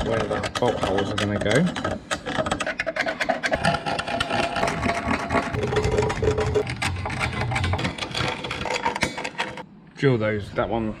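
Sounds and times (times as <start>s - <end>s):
steel scribe scratching metal: 0.0s - 9.6s.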